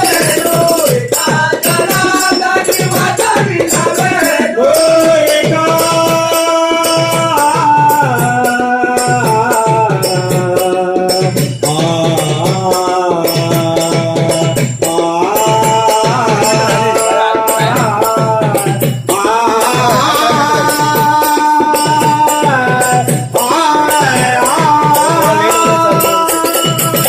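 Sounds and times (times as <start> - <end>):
drum beat: 0.0 - 27.0
hand cymbals jingling: 0.0 - 27.0
voices singing: 0.0 - 27.0.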